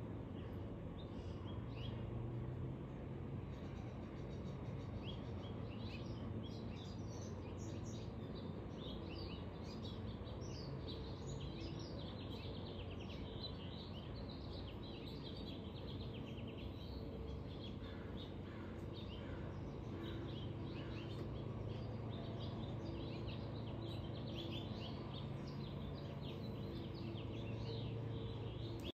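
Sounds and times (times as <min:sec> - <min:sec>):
low background hum: 0:00.0 - 0:28.9
small birds chirping: 0:00.0 - 0:28.9.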